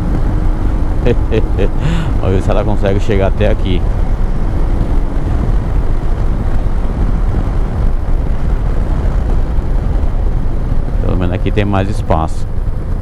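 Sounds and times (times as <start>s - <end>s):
motorcycle engine drone: 0.0s - 13.0s
wind rush over microphone: 0.0s - 13.0s.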